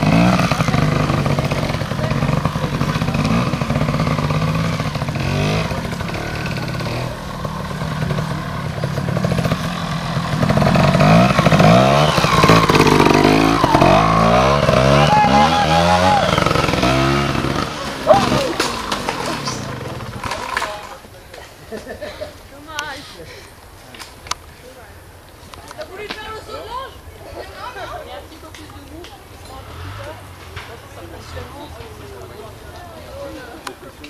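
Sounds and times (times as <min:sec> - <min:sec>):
motorcycle engines revving: 0:00.0 - 0:21.1, 0:27.4 - 0:34.0.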